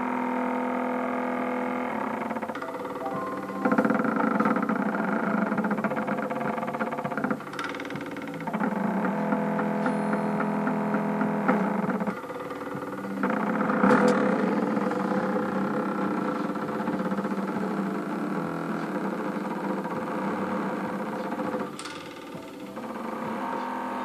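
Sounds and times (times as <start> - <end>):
rotary tool spindle humming: 0.1 - 24.0.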